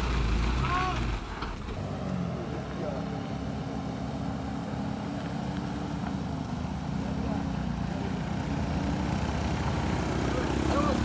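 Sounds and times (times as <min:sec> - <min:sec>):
motorcycle passing: 0:00.0 - 0:11.0
truck diesel engine hum: 0:00.0 - 0:11.0.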